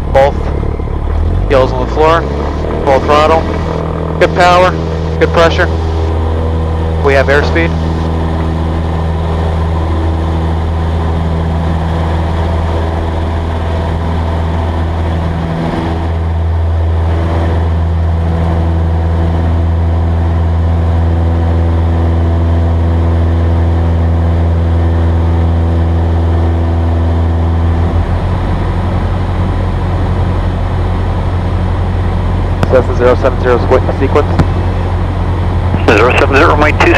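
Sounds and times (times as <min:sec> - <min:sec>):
airplane engine droning at full throttle: 0:00.0 - 0:36.9.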